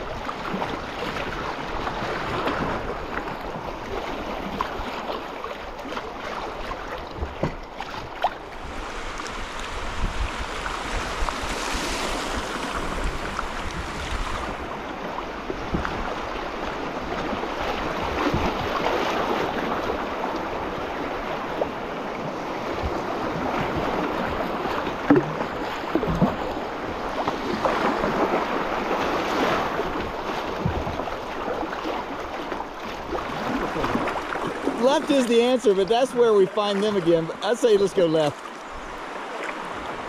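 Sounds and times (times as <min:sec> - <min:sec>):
river water rushing and splashing: 0:00.0 - 0:40.0.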